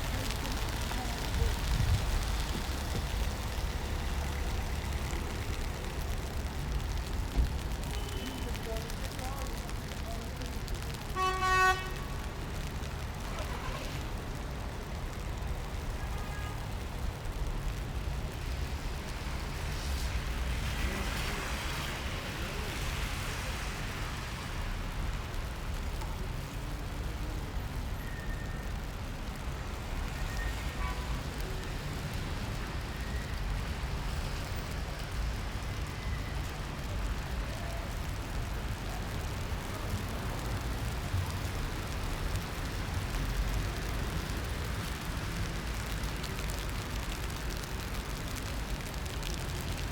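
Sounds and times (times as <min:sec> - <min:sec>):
traffic on wet roads: 0:00.0 - 0:49.9.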